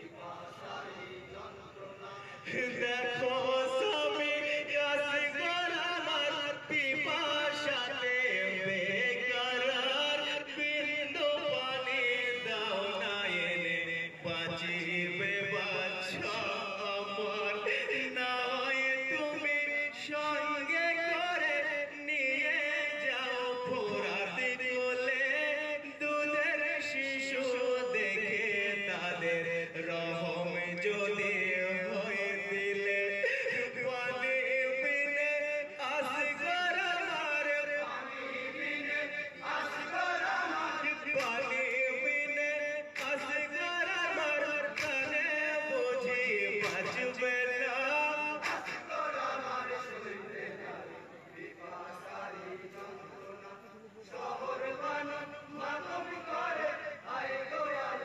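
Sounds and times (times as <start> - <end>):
men chanting melodically: 0.0 - 58.0.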